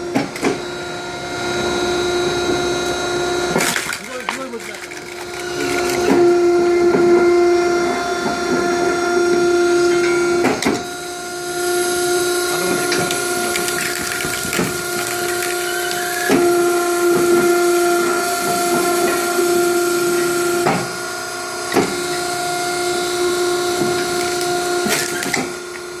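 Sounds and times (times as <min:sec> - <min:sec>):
firewood machine whining: 0:00.0 - 0:26.0.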